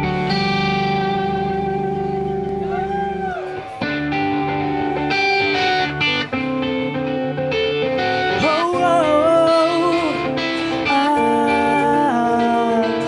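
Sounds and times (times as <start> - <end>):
blues-rock band playing: 0.0 - 13.0.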